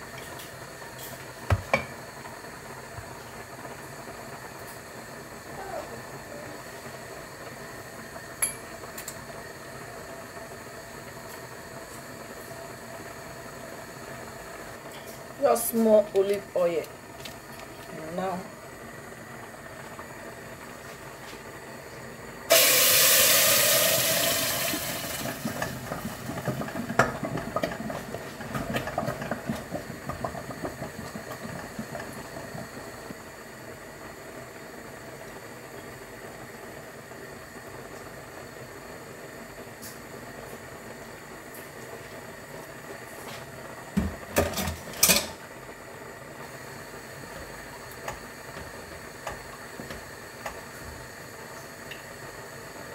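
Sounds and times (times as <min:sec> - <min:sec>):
stove and boiling pot hiss: 0:00.0 - 0:52.9.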